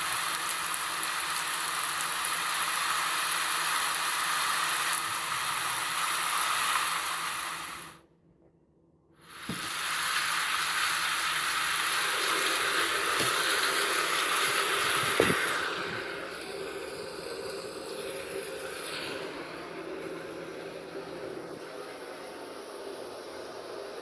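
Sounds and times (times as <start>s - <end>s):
steady rain: 0.0s - 8.0s, 9.2s - 24.0s.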